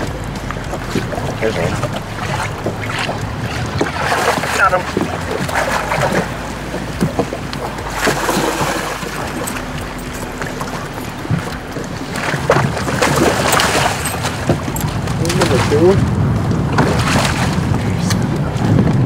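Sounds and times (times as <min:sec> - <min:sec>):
fish thrashing and splashing: 0:00.0 - 0:18.9.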